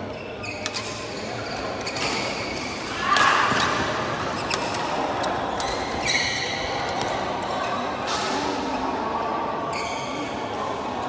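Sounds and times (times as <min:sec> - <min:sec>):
shoe squeaking on court floor: 0:00.0 - 0:02.9, 0:03.5 - 0:09.0, 0:09.6 - 0:10.6
busy hall background noise: 0:00.0 - 0:11.0.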